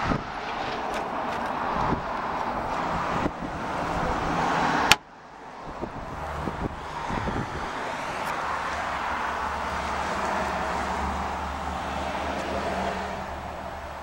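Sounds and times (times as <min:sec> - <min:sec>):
outdoor traffic: 0:00.0 - 0:14.0
wind: 0:00.0 - 0:14.0.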